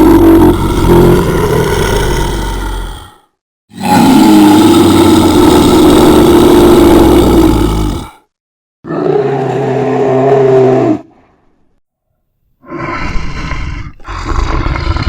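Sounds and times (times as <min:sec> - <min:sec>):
bear roaring: 0:00.0 - 0:08.2, 0:08.8 - 0:11.2, 0:12.6 - 0:15.0.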